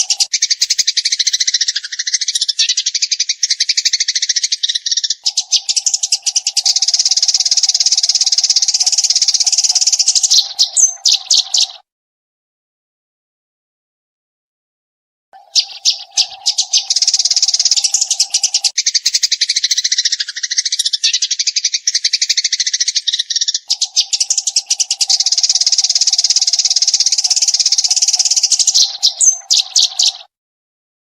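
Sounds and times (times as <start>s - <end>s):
sparrow chirping: 0.0s - 11.8s, 15.4s - 30.3s.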